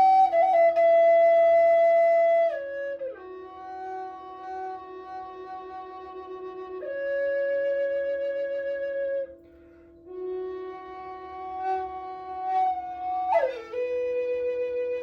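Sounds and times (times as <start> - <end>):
flute long held notes: 0.0 - 15.0.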